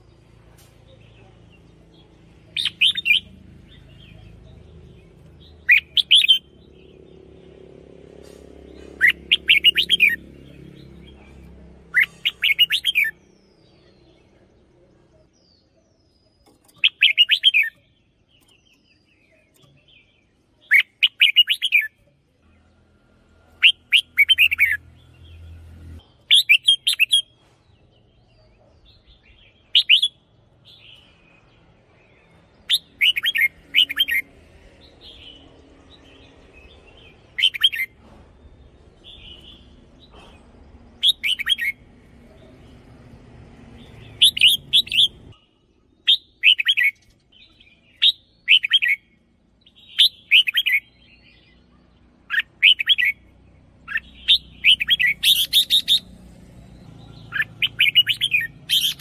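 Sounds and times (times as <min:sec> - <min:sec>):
soft bird chirps: 0:00.0 - 0:59.0
bird warbling song: 0:00.9 - 0:07.6, 0:08.6 - 0:14.5, 0:15.3 - 0:22.1, 0:23.6 - 0:25.6, 0:28.3 - 0:38.0, 0:38.7 - 0:42.8, 0:43.8 - 0:59.0.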